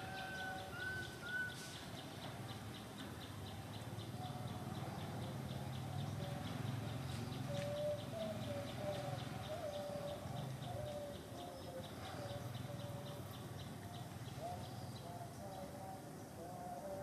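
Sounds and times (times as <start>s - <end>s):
cooing calls: 0.0s - 2.0s, 4.2s - 15.9s.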